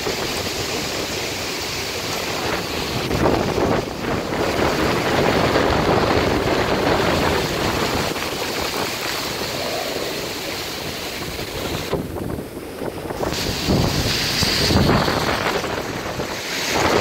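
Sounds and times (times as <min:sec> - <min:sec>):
heavy rain pouring: 0:00.0 - 0:17.0
wind buffeting microphone: 0:00.0 - 0:17.0.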